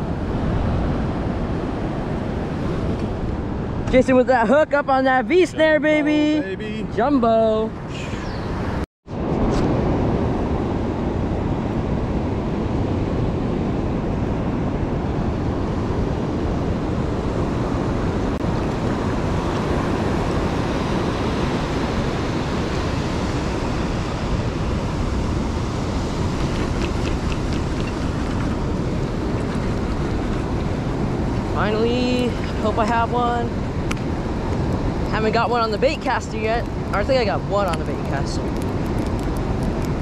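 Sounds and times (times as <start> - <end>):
ocean surf breaking: 0.0 - 40.0
wind buffeting microphone: 0.0 - 40.0.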